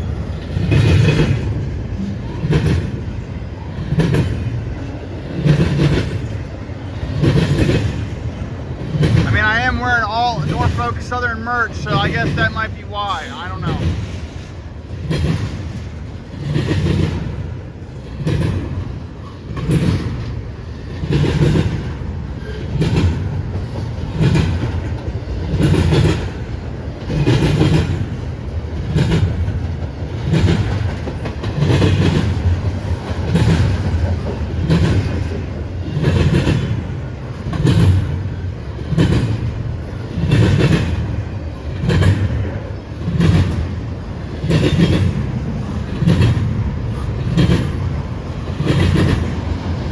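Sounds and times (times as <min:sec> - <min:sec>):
freight train rumble: 0:00.0 - 0:49.9
train wheels clacking on rails: 0:00.0 - 0:49.9.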